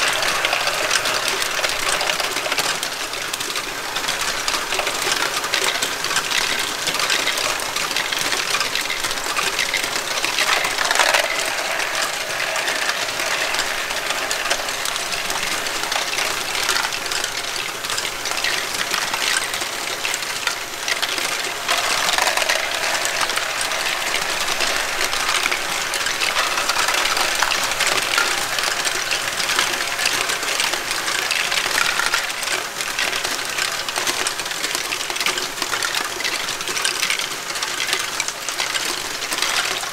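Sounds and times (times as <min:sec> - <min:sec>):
plastic balls clattering and rolling: 0:00.0 - 0:39.9.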